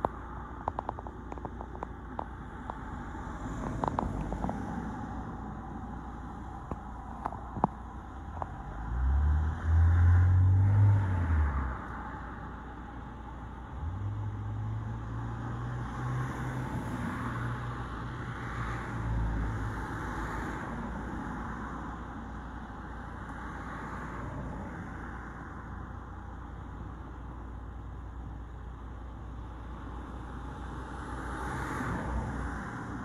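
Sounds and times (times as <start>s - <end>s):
vehicle engine hum: 0.0s - 33.0s.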